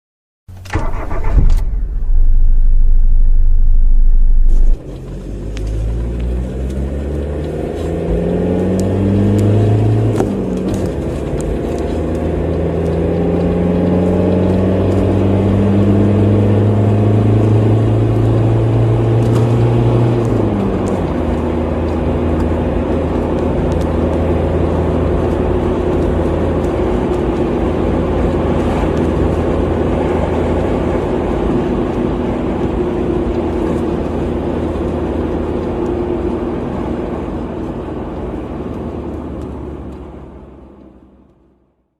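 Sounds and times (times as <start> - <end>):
car engine running: 0.5 - 41.4
road noise: 0.5 - 41.8.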